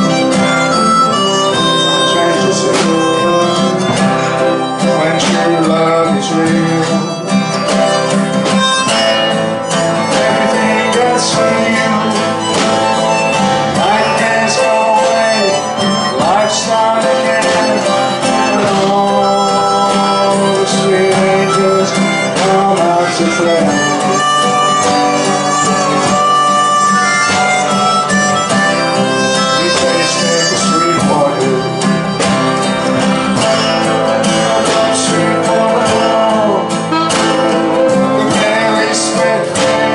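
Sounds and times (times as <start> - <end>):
harmonica solo with bending notes: 0.0 - 39.9
strummed acoustic guitar: 0.0 - 39.9.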